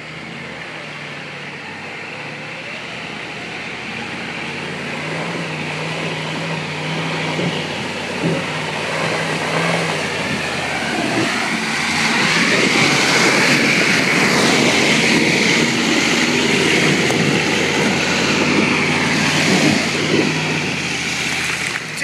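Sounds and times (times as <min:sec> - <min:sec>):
engine running hard: 0:00.0 - 0:22.0
tires churning mud and water: 0:00.0 - 0:22.0.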